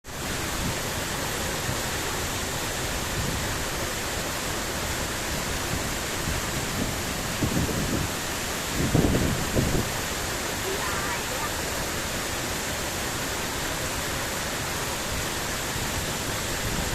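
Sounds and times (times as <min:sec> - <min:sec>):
waterfall rushing: 0:00.1 - 0:16.9.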